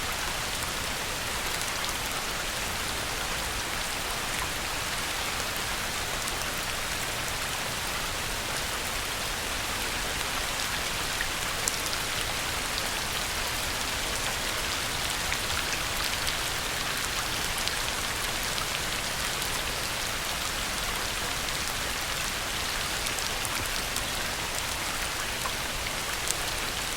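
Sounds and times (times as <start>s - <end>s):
heavy rain on a pond: 0.0s - 26.9s.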